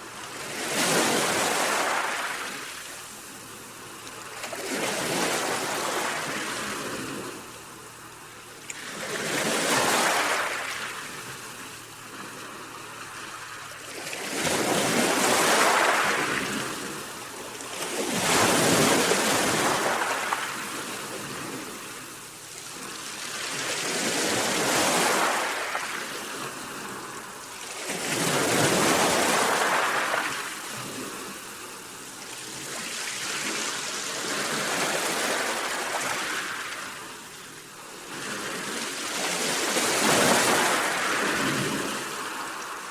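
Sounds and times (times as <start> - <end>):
sea waves breaking: 0.1 - 31.8, 32.4 - 42.9.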